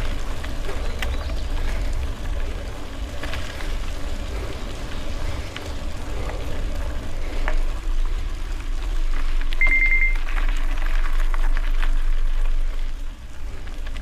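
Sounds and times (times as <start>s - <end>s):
bicycle tyres rolling over gravel: 0.0s - 14.0s
wind rumble on microphone: 0.0s - 14.0s.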